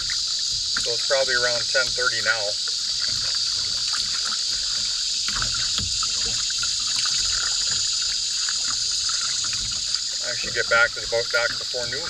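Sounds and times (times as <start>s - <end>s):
high-pitched insect drone: 0.0s - 12.0s
water trickling off paddle: 0.0s - 12.0s.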